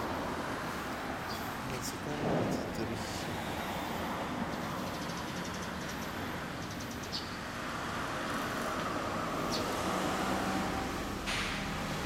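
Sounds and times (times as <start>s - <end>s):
engine hum with road noise: 0.0s - 12.0s
passing vehicle: 0.0s - 12.0s.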